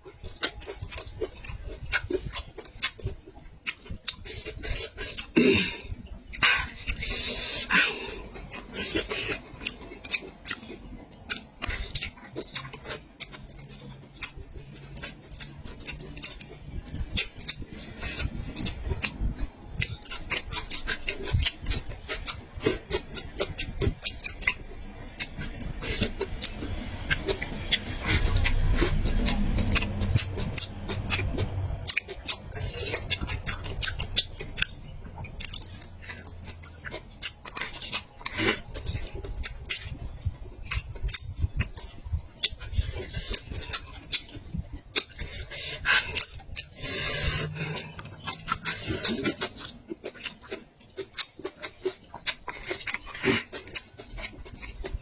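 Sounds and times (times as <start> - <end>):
chewing with wet mouth smacks: 0.0 - 55.0.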